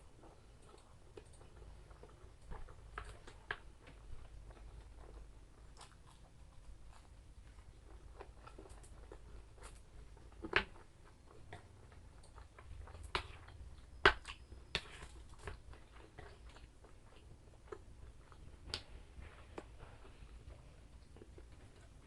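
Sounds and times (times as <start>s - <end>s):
person chewing: 0.2s - 22.0s.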